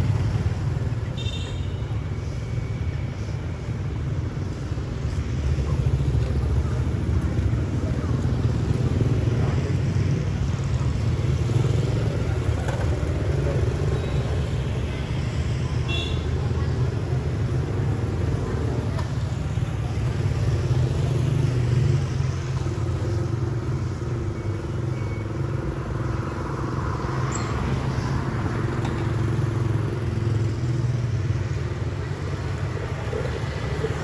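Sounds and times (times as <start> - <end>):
motorbikes passing: 0.0 - 34.0.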